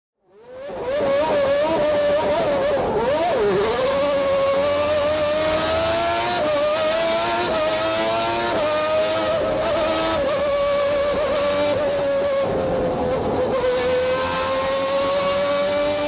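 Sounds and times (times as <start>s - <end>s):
racing car engine at high revs: 0.2s - 16.0s.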